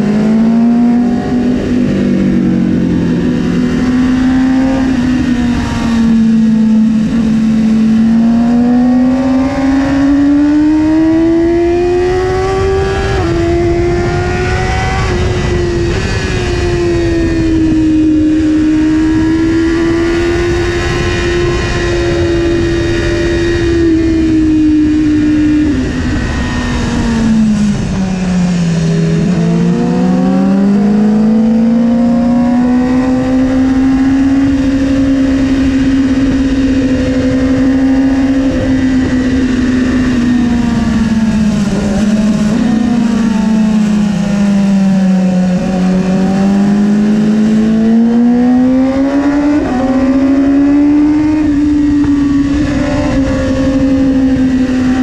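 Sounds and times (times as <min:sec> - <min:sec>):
motorcycle engine revving high: 0:00.0 - 0:55.0
wind and road noise: 0:00.0 - 0:55.0.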